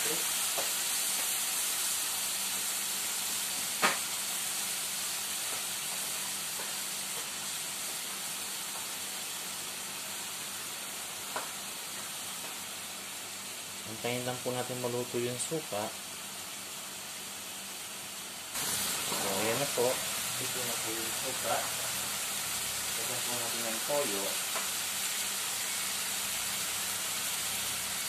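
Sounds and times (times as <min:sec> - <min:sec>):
chicken sizzling in a frying pan: 0:00.0 - 0:28.0.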